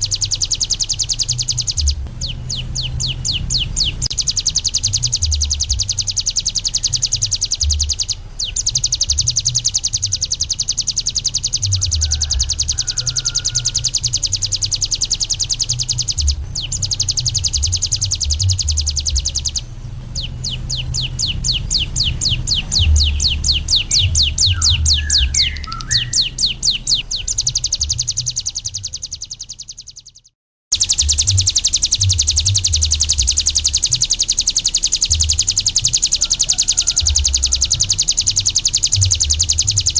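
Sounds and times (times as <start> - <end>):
bird singing buzzing trill: 0.0 - 39.9.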